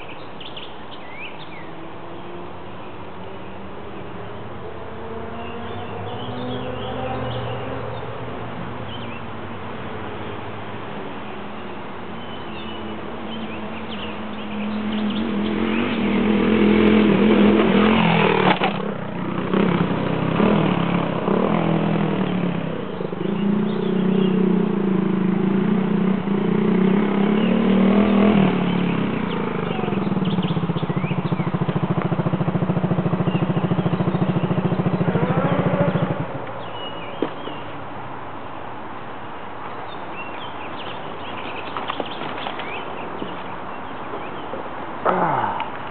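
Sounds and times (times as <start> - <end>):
motorcycle engines revving: 0.0 - 38.8, 40.2 - 45.9.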